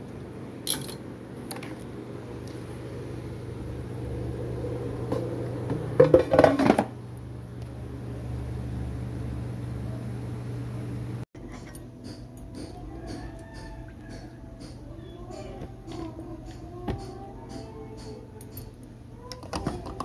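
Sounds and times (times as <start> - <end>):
air fryer humming: 0.0 - 20.0.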